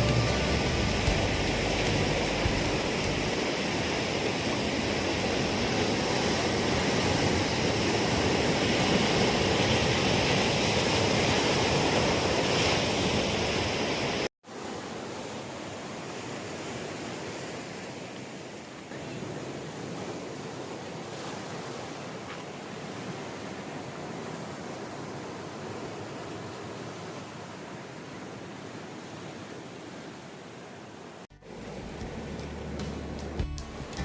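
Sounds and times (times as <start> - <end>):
surf breaking on beach: 0.0 - 30.3.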